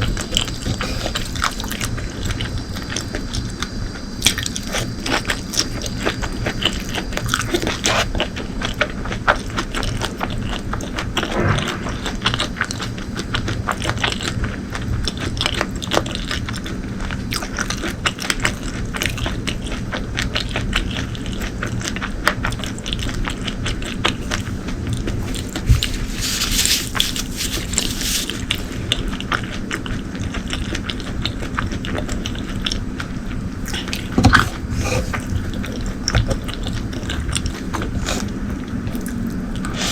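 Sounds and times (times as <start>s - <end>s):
person chewing food: 0.1s - 39.9s.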